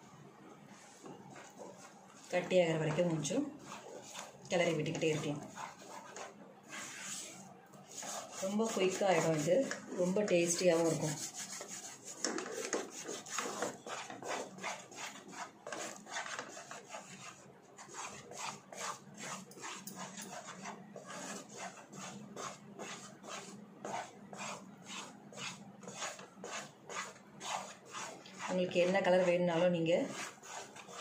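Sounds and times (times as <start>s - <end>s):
wooden spatula scraping a pan: 0.8s - 31.0s.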